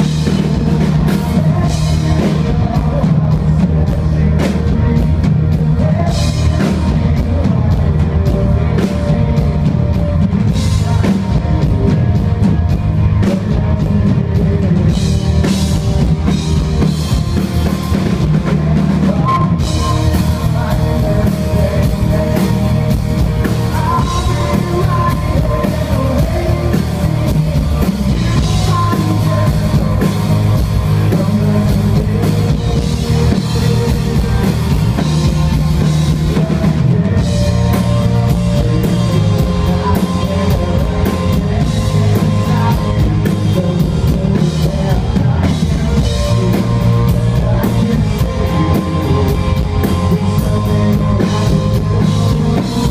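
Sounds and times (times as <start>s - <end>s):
drum kit: 0.0s - 52.9s
electric guitar: 0.0s - 52.9s.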